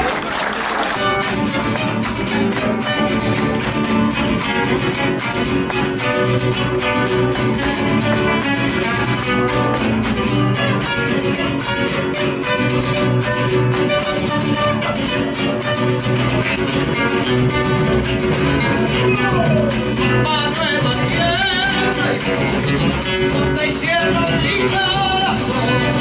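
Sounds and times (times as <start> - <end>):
strummed acoustic guitar folk music: 0.7 - 26.0.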